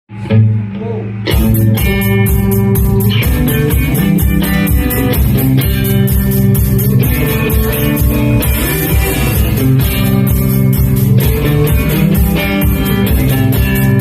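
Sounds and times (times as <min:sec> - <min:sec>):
math rock band playing: 0:00.1 - 0:14.0
solo guitar: 0:00.1 - 0:14.0.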